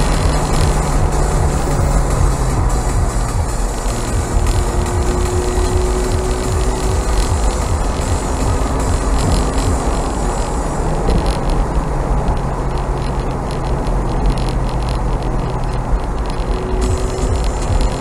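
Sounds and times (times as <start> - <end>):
car engine running: 0.0 - 18.0
road and wind noise: 0.0 - 18.0.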